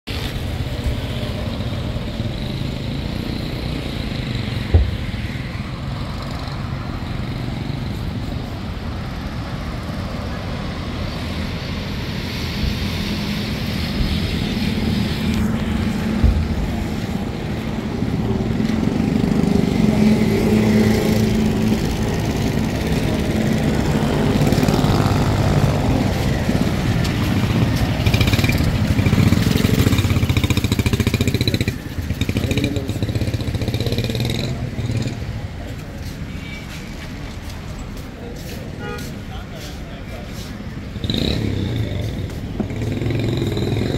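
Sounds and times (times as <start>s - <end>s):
cars and motorcycles passing: 0.1s - 43.9s.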